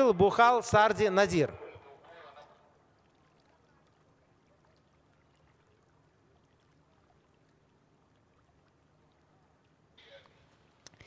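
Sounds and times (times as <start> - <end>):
faint low hum: 1.4 - 11.0.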